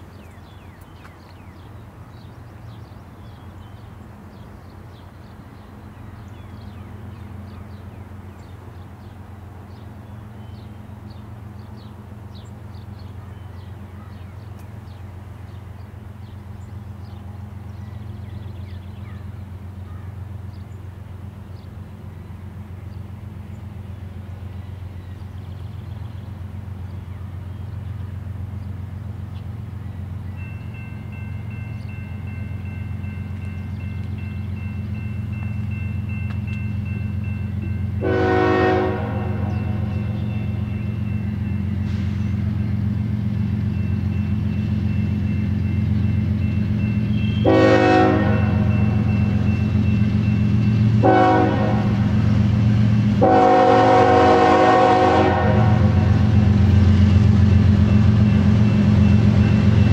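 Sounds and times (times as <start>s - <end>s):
birds chirping: 0.0s - 53.2s
diesel locomotive engine drone: 0.0s - 59.9s.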